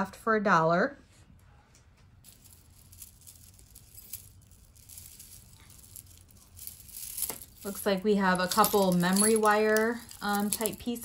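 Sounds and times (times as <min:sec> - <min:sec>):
faint low room hum: 0:00.0 - 0:11.0
jewelry clicking and rustling: 0:02.2 - 0:11.0.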